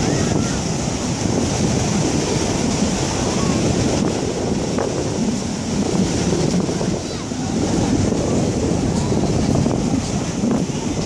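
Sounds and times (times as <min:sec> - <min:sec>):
surf breaking on a beach: 0:00.0 - 0:11.0
wind buffeting microphone: 0:00.0 - 0:11.0.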